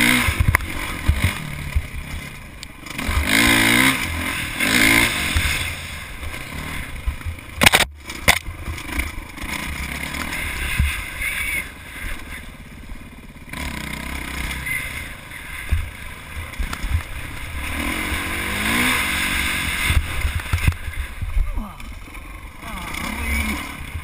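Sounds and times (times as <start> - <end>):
dirt bike engine revving: 0.0 - 24.0
low rumble with thumps: 0.0 - 24.0.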